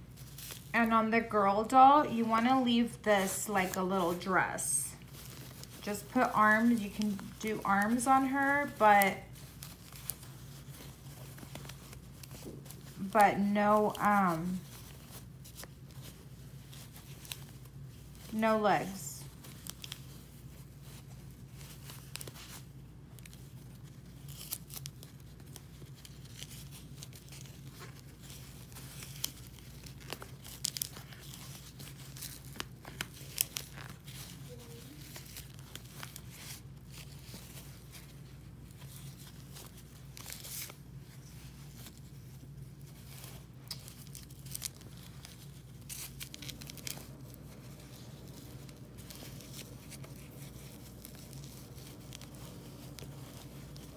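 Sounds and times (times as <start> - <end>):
fabric rustling: 0.0 - 53.9.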